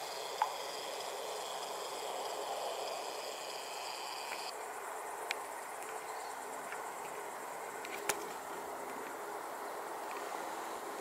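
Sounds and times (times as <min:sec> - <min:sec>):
faint insect chirring: 0:00.0 - 0:11.0.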